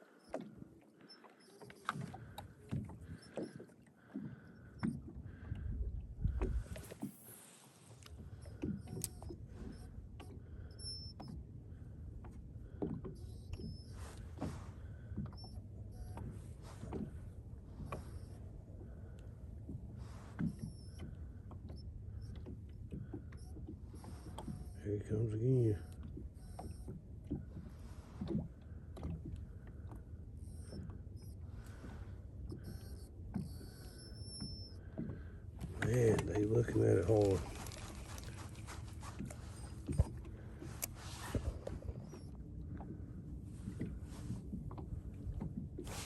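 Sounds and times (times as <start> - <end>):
boat engine low hum: 0.0 - 46.0
faint whine: 0.0 - 46.0.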